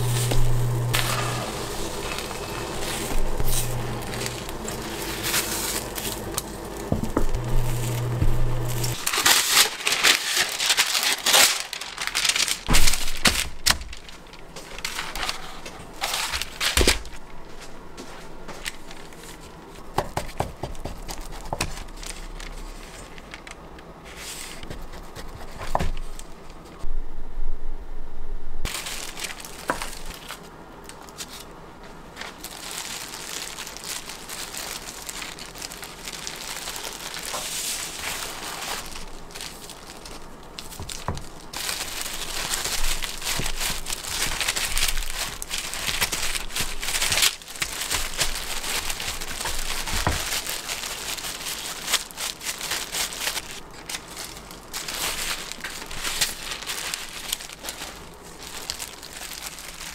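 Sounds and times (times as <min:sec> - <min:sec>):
plastic crinkling and rustling: 0:00.0 - 0:26.8, 0:28.7 - 0:59.9.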